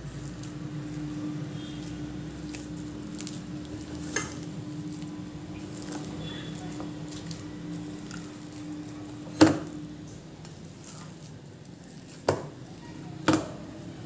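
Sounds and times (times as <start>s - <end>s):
hand squishing food mixture: 0.0s - 14.0s.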